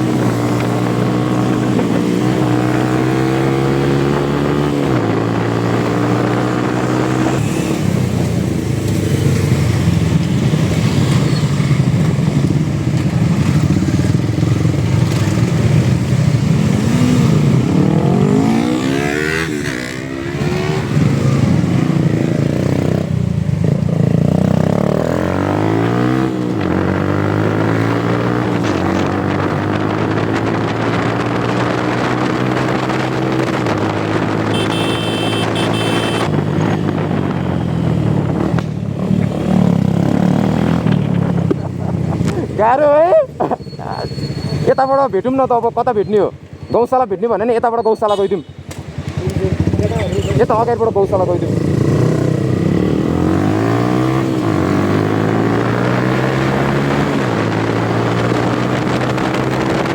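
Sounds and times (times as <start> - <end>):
motorcycle engine accelerating: 0.0 - 44.7, 48.7 - 59.9.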